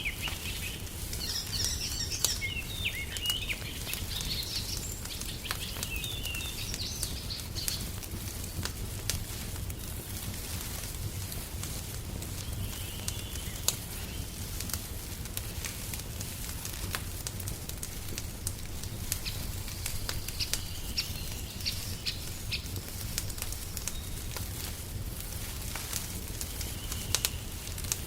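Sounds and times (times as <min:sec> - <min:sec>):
small birds chirping: 0:00.0 - 0:10.3, 0:12.0 - 0:14.8, 0:17.8 - 0:28.0
wood fire crackling: 0:00.0 - 0:28.0.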